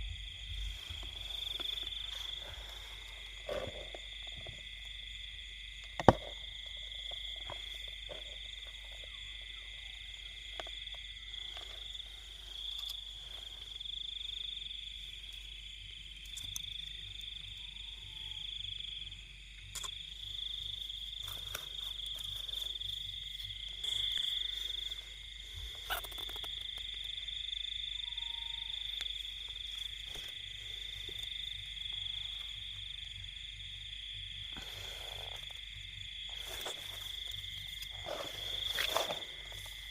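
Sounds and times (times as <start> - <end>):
frogs and insects trilling: 0.0 - 39.9.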